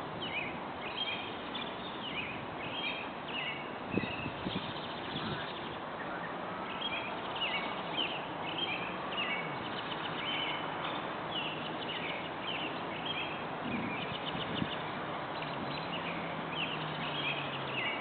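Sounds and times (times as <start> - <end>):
birds chirping: 0.1 - 18.0.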